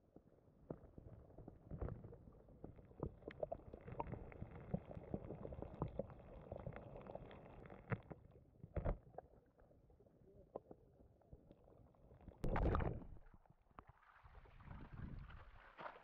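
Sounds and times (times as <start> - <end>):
small crackles and clicks: 0.1 - 13.9.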